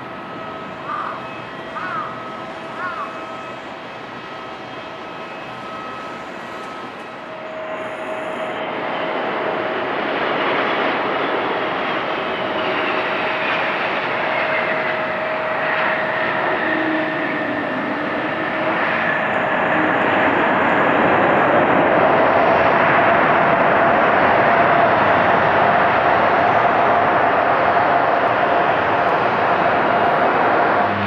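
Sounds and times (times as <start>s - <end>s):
jet airliner landing: 0.0s - 31.0s.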